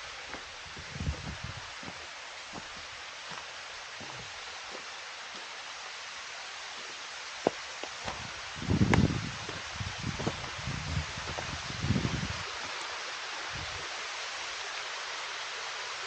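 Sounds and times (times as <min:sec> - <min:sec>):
waterfall hiss: 0:00.0 - 0:16.0.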